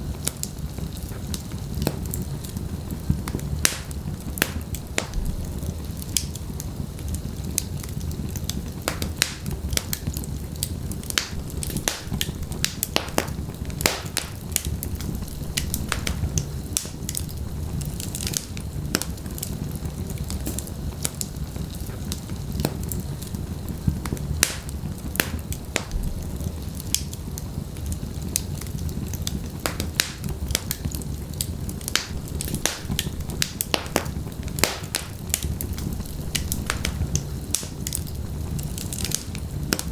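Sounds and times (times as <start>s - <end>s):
low rumble of flames: 0.0s - 39.9s
wood fire crackling: 0.0s - 39.9s
sharp pops and snaps: 0.2s - 39.9s.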